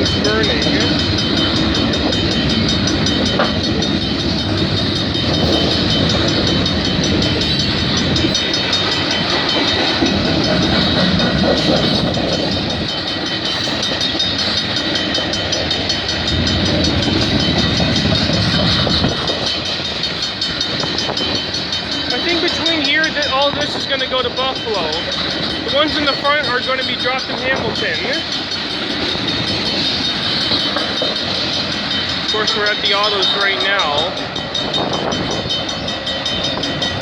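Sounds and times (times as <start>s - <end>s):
clickety-clack over rail joints: 0.0s - 37.0s
train wheels rumbling on rails: 0.0s - 37.0s.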